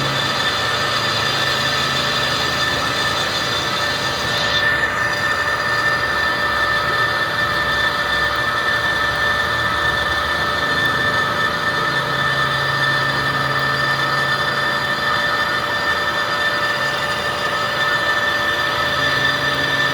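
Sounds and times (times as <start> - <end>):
high-pitched whining tones: 0.0 - 19.9
metal lathe running: 0.0 - 19.9.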